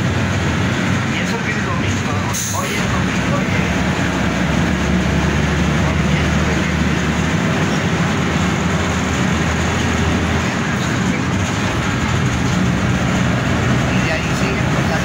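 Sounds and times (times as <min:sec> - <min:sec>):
bus engine humming: 0:00.0 - 0:15.0
road and wind noise: 0:00.0 - 0:15.0.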